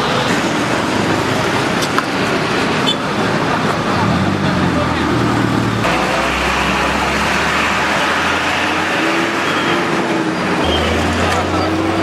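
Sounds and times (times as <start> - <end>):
passing road traffic: 0.0 - 12.0.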